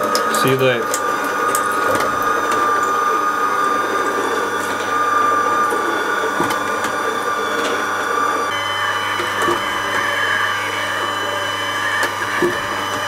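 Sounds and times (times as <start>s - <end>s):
juicer whining: 0.0s - 13.0s.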